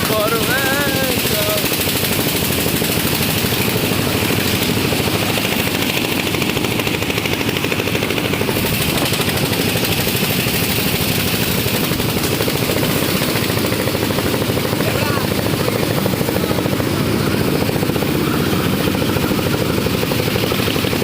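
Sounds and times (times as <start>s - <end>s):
machine rattling steadily: 0.0s - 21.0s.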